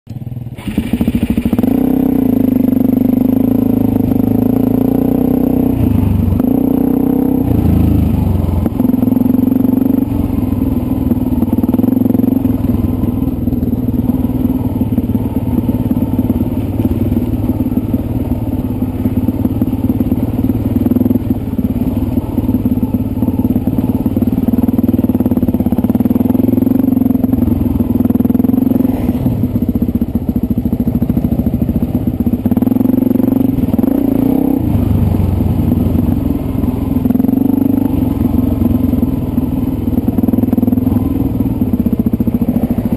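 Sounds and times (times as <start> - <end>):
dirt bike engine running: 0.1 - 42.9.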